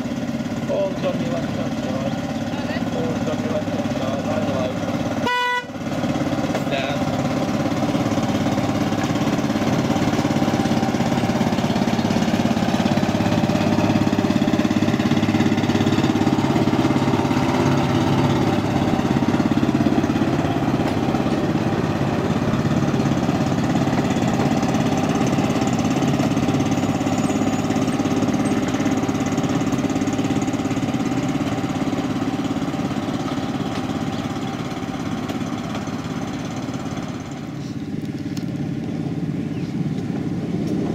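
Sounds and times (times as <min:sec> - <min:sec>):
locomotive diesel engine running: 0:00.0 - 0:40.9.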